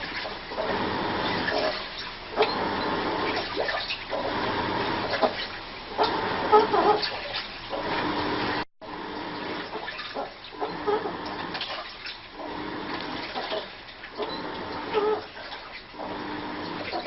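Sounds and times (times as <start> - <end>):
washing machine water sloshing: 0.0 - 17.0.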